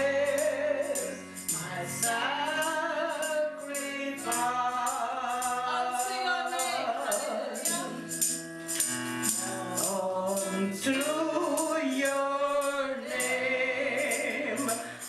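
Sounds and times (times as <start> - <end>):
group singing gospel song: 0.0 - 15.0
jingling percussion: 0.0 - 15.0.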